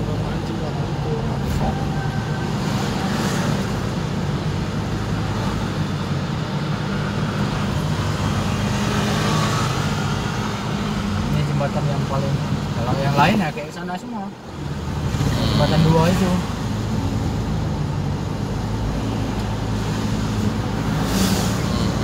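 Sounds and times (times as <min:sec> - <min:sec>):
car engine and tyre hum: 0:00.0 - 0:22.0.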